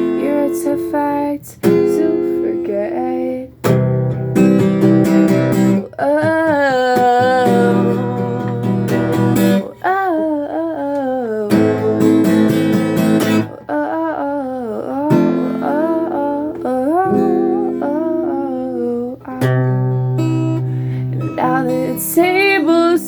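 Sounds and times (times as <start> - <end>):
person singing: 0.0 - 3.6, 5.6 - 23.0
acoustic guitar strumming chords: 0.0 - 10.0, 11.5 - 13.8, 14.7 - 23.0.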